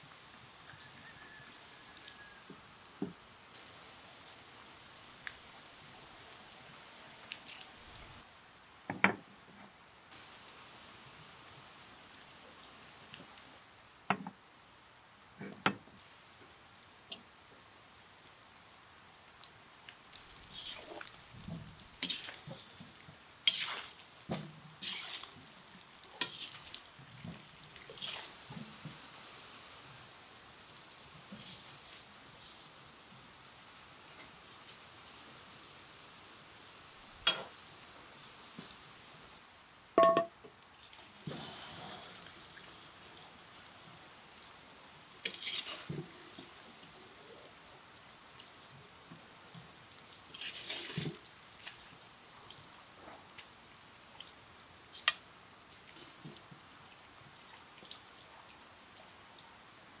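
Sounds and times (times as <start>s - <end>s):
faint steady hiss: 0.0s - 60.0s.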